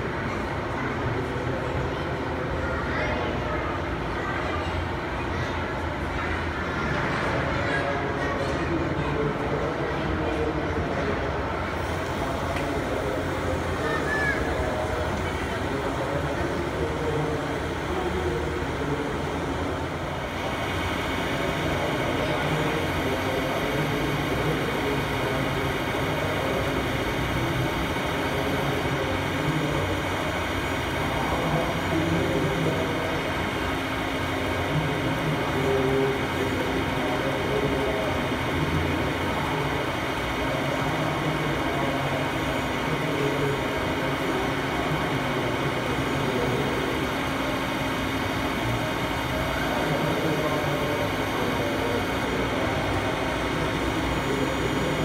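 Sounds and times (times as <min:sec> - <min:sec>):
murmur of many voices: 0:00.0 - 0:55.0.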